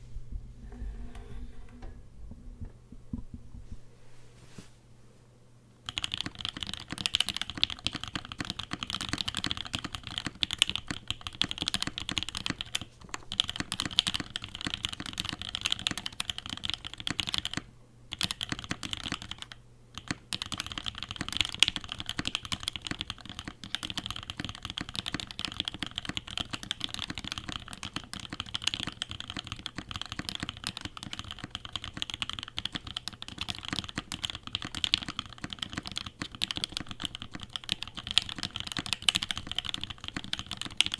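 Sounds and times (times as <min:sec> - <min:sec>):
mechanical keyboard typing: 0:05.9 - 0:40.9.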